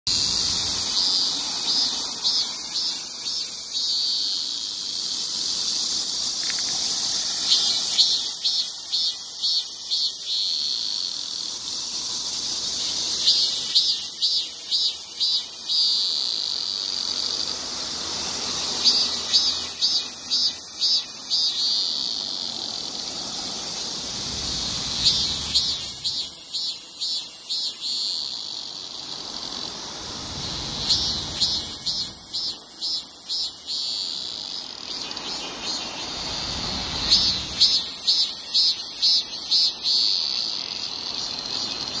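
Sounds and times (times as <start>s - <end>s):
cicada singing: 0.1s - 42.0s.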